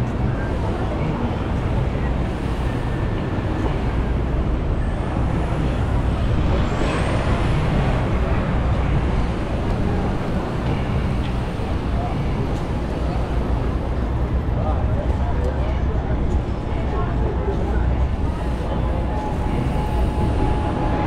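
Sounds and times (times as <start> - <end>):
city street traffic rumble: 0.0 - 21.0.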